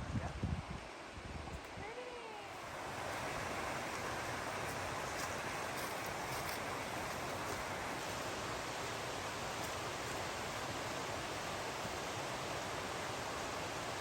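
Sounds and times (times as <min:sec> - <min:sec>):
water rushing over rocks: 0:01.7 - 0:14.0.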